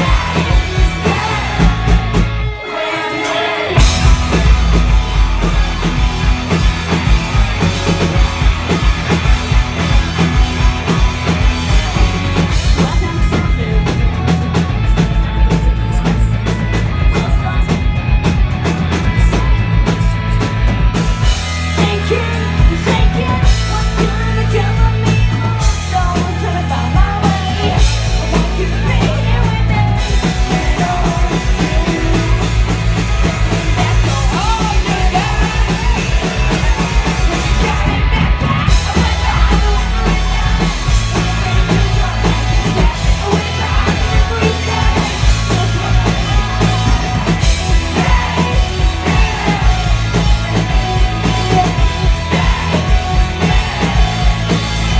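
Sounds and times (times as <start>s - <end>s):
woman singing lead: 0.0s - 5.0s, 12.4s - 17.9s, 21.2s - 54.9s
drum kit: 0.0s - 54.9s
electric guitar: 0.0s - 54.9s.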